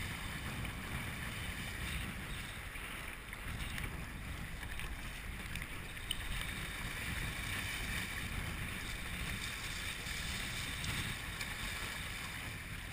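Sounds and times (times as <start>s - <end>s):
choppy water splashing: 0.0s - 12.9s
wind buffeting microphone: 0.0s - 12.9s.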